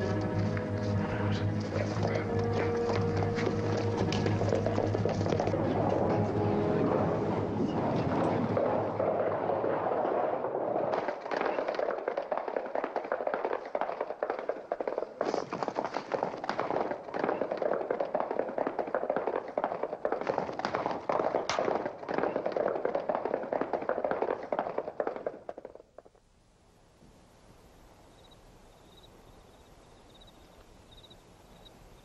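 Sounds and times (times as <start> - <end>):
horses galloping: 0.0 - 26.3.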